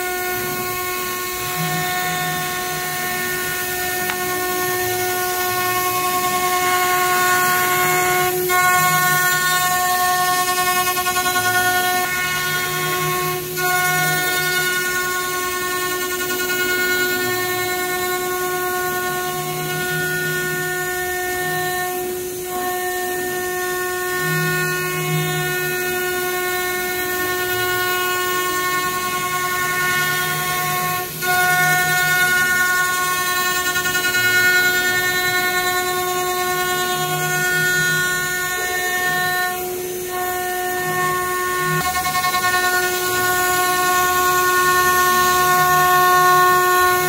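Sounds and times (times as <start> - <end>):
router spindle whining: 0.0 - 47.0.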